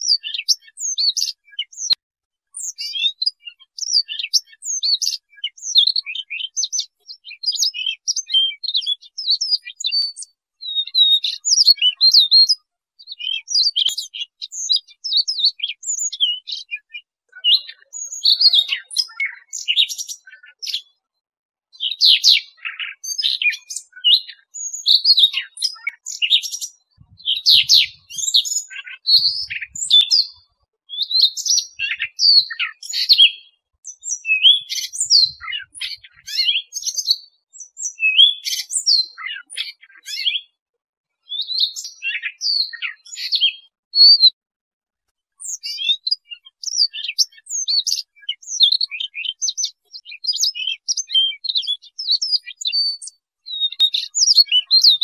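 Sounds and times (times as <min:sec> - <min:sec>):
bird singing rapid warble: 0:00.0 - 0:21.1, 0:21.7 - 0:40.6, 0:41.2 - 0:44.3, 0:45.4 - 0:55.0.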